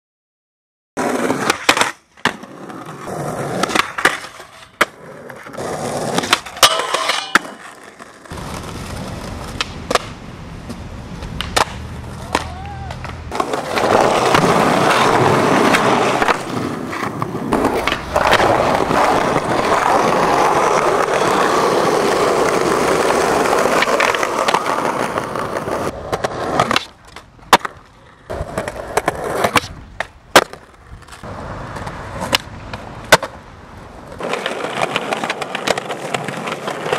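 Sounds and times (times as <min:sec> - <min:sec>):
skateboard clacks popping and landing: 0:01.0 - 0:36.9
skateboard wheels rolling on concrete: 0:01.0 - 0:36.9.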